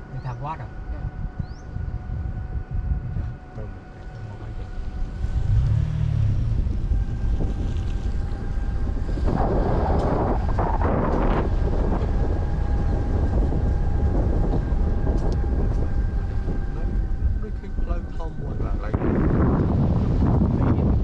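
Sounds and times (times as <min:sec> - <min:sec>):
rough road noise: 0:00.0 - 0:21.0
car driving on dirt road: 0:02.1 - 0:21.0.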